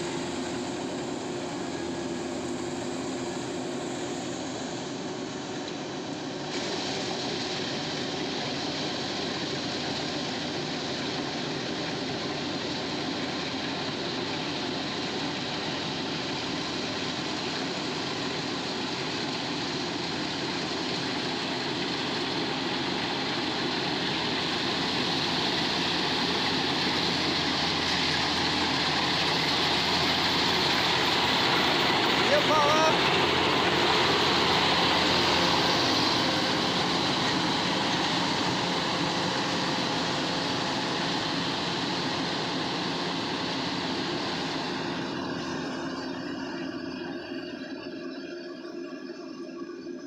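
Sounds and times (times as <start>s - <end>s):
engine running: 0.0s - 50.0s.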